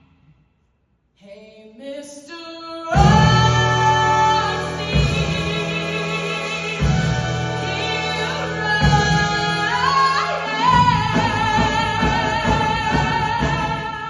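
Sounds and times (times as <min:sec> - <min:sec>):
woman singing: 0:01.2 - 0:14.0.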